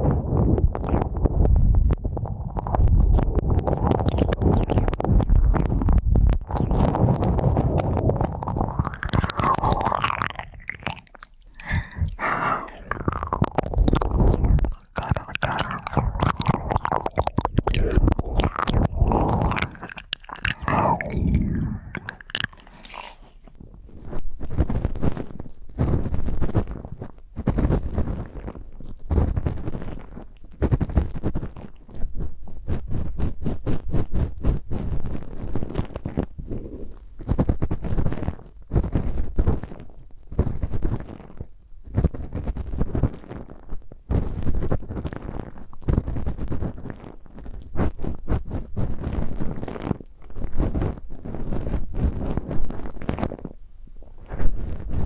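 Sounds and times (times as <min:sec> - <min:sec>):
ear scraping and crackling: 0:00.0 - 0:55.0.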